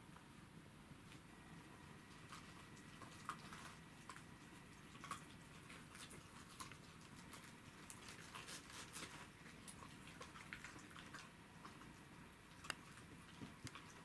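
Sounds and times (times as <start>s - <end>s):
dogs chewing cabbage leaves: 1.1s - 14.0s.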